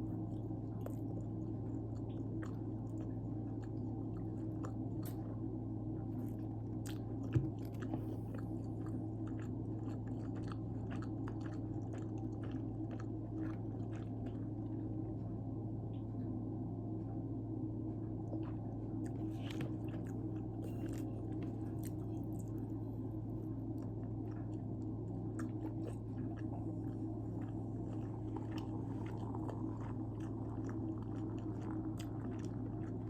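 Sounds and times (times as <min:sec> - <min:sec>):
chewing food: 0:00.0 - 0:16.4, 0:17.8 - 0:33.0
steady low hum: 0:00.0 - 0:33.0.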